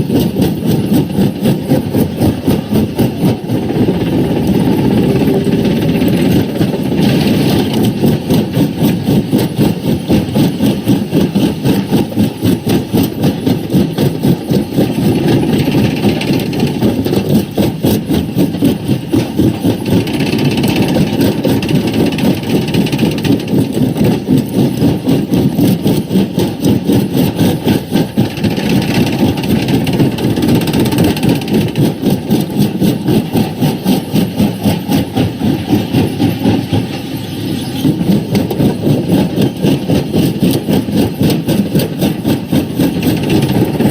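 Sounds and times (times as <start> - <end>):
rock crusher churning: 0.0 - 43.9.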